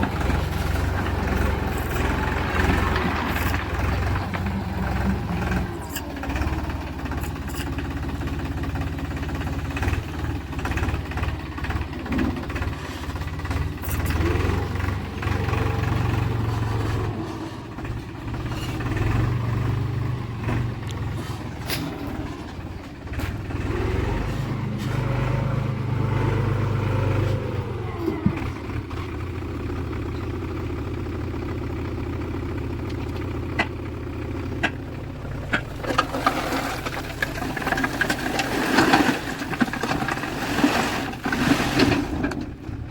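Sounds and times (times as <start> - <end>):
diesel engine working: 0.0 - 42.9.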